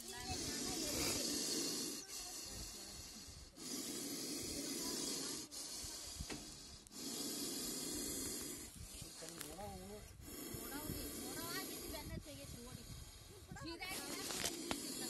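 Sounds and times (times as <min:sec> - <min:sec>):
cobra hissing: 0:00.0 - 0:15.0.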